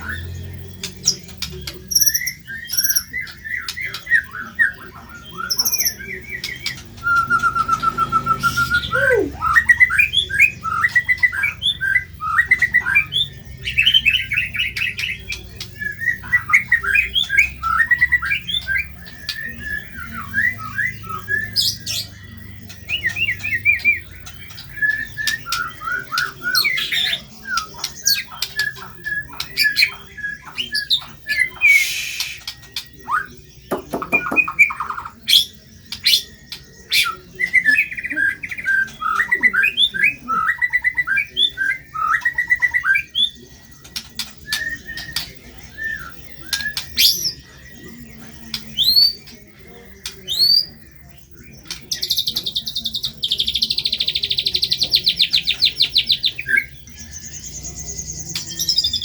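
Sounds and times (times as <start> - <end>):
bird singing varied song: 0.0 - 59.0
bird trill: 0.0 - 59.0.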